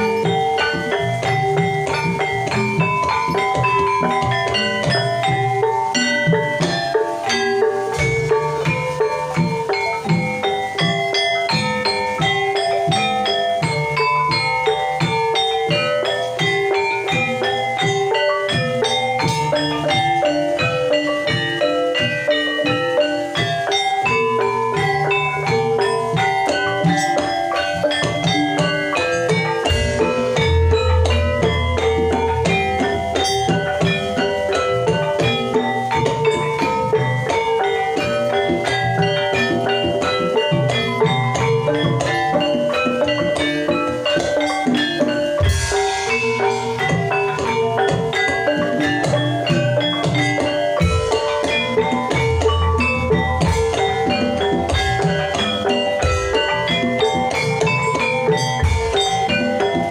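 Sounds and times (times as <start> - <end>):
drumming: 0.0 - 59.9
metallophones ringing: 0.0 - 59.9.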